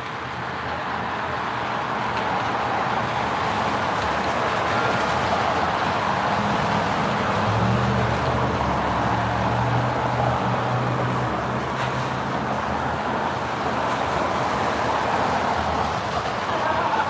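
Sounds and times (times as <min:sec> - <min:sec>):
car road and tyre noise: 0:00.0 - 0:17.0.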